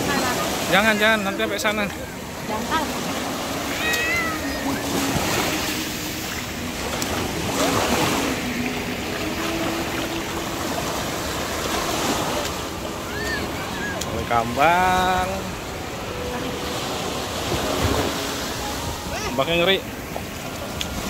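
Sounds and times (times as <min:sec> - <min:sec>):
small waves washing over sand: 0:00.0 - 0:21.0.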